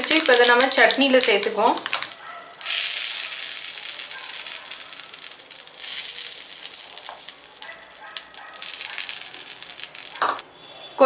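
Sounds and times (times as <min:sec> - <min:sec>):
hot oil sizzling and crackling: 0:00.0 - 0:10.4.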